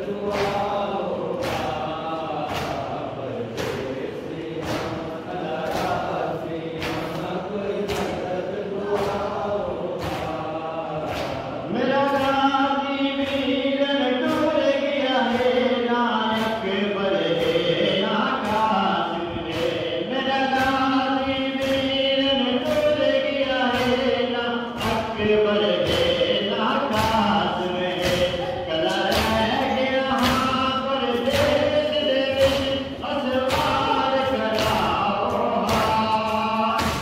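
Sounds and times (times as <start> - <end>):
men chanting in unison: 0.0 - 37.0
rhythmic chest-beating slaps: 0.0 - 37.0.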